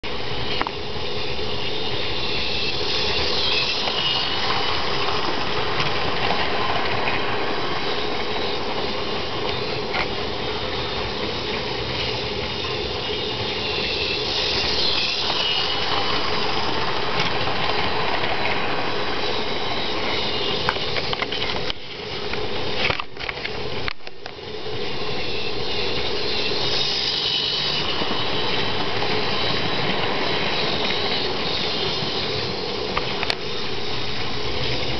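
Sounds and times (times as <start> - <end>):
model train running on track: 0.0 - 34.9
high motor whine: 0.1 - 34.9.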